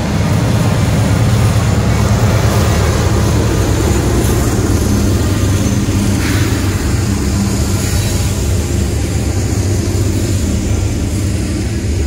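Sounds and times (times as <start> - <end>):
diesel locomotives droning: 0.0 - 12.0.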